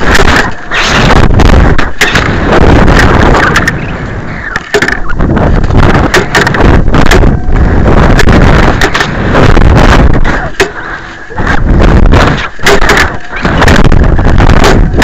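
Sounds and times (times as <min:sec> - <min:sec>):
sharp knocks and crackles: 0:00.0 - 0:15.0
wind buffeting microphone: 0:00.0 - 0:15.0.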